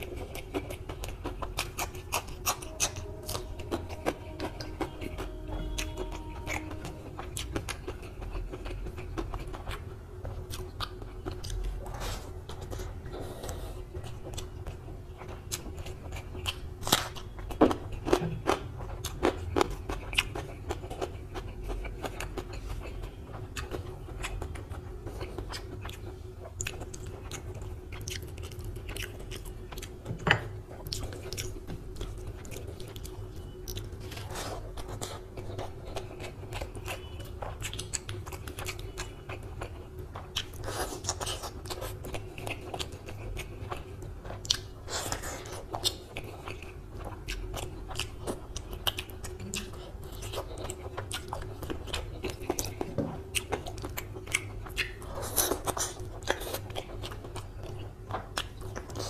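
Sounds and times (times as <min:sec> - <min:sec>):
chewing and biting: 0:00.0 - 0:59.0
steady low hum: 0:00.0 - 0:59.0.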